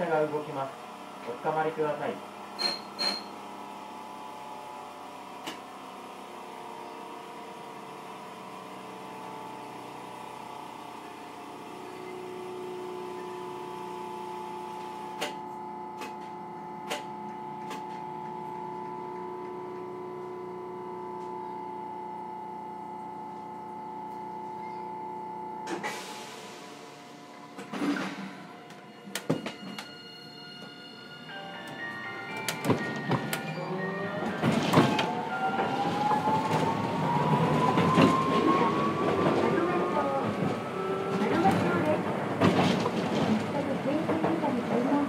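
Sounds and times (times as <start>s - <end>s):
tram inverter electric tones: 0.0s - 45.0s
tram motor and running noise: 0.0s - 45.0s.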